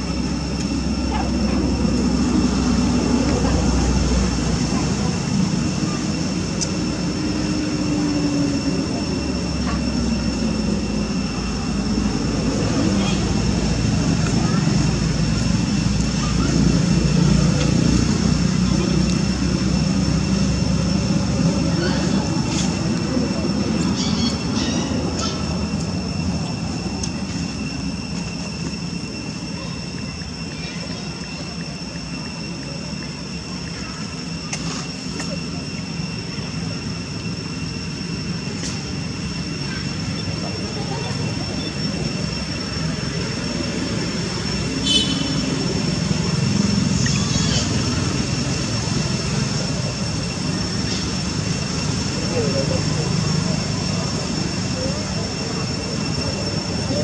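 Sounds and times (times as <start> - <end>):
high-pitched insect drone: 0.0 - 57.0
high-pitched whine: 0.0 - 57.0
low outdoor rumble: 0.0 - 57.0.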